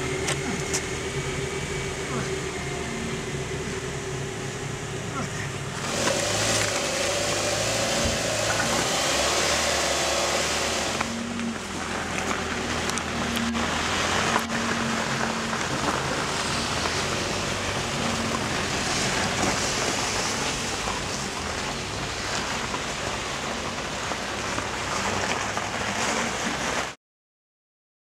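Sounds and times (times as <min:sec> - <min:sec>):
car engine running: 0:00.0 - 0:27.0
tyres hissing through slush: 0:00.0 - 0:27.0.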